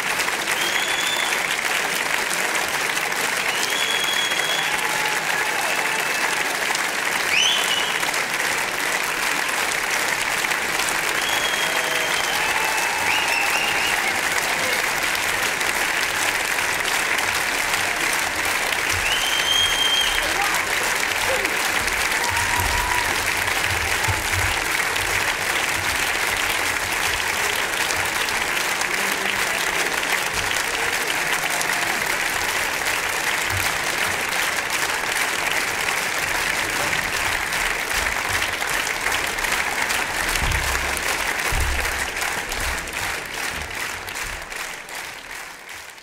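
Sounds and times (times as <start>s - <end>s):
audience applauding: 0.0s - 46.0s.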